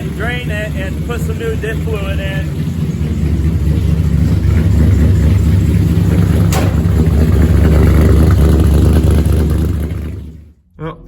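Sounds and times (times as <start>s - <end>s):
truck engine running: 0.0s - 10.6s.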